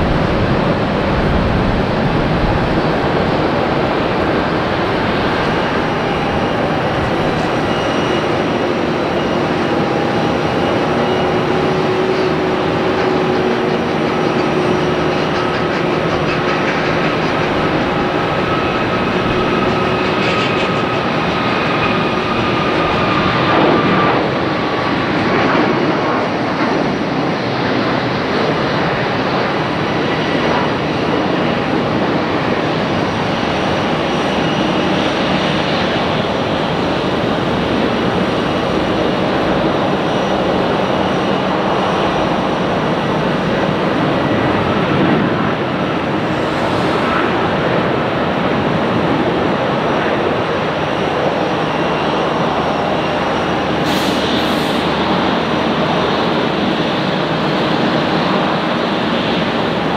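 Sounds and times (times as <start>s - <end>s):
jet engines roaring: 0.0s - 59.9s.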